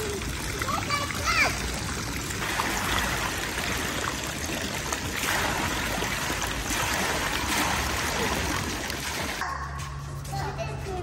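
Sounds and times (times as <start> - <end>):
water flowing: 0.0 - 9.4.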